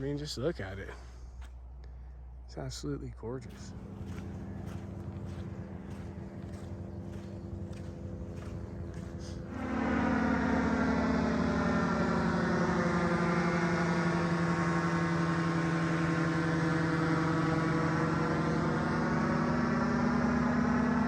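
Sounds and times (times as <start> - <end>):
engine humming steadily: 0.0 - 21.0.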